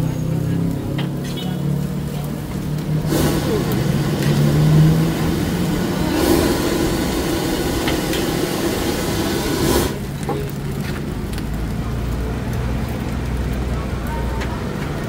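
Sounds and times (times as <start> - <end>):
gas wok burner roaring: 0.0 - 15.0.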